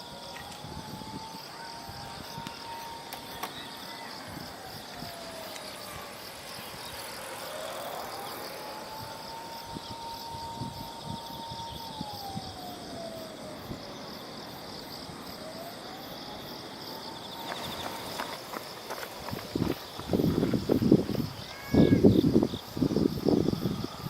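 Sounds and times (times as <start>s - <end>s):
insects trilling: 0.0s - 24.0s
wind rumble on microphone: 0.0s - 24.0s.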